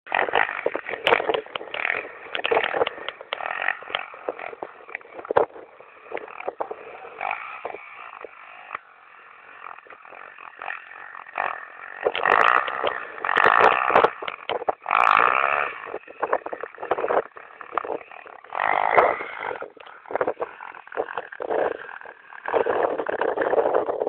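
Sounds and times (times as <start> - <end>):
crackling: 0.1 - 24.0
motorbike engine revving: 0.1 - 24.0.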